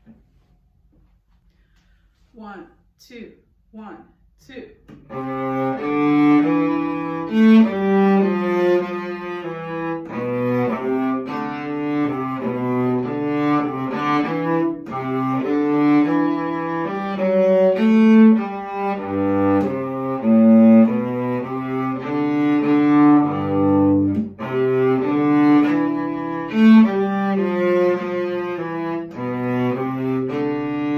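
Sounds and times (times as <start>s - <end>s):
cello duet: 4.9s - 30.9s.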